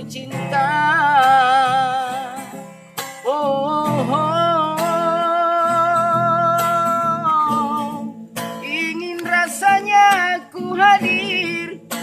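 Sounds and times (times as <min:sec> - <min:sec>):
acoustic guitar: 0:00.0 - 0:12.0
person singing with vibrato: 0:00.0 - 0:12.0.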